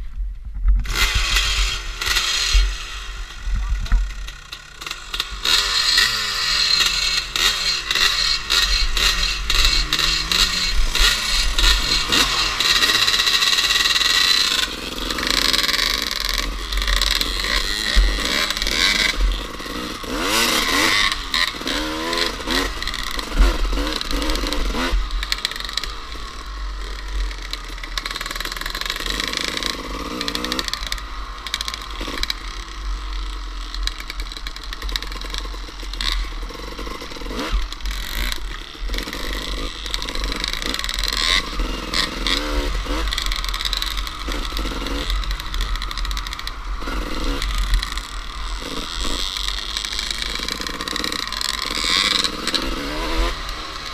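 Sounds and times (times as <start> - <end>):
dirt bike engine revving: 0.8 - 53.9.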